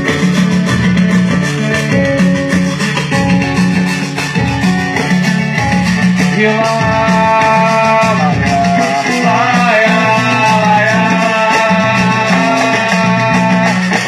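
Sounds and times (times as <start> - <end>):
bass line: 0.0 - 14.0
guitar: 0.0 - 14.0
sustained melody line: 0.0 - 14.0.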